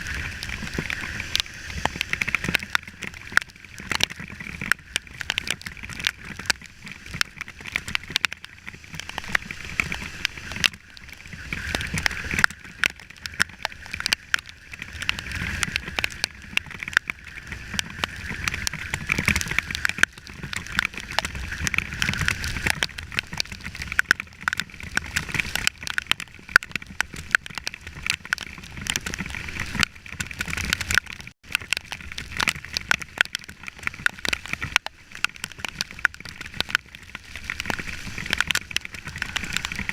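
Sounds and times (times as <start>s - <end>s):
rain tapping on microphone: 0.0s - 39.9s.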